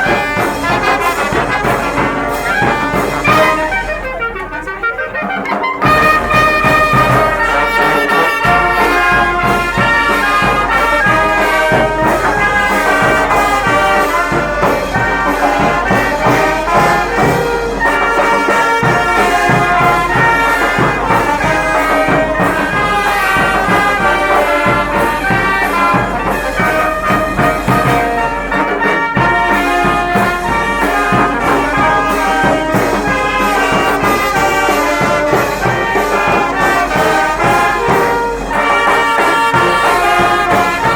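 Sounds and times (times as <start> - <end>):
brass band playing: 0.0 - 40.9.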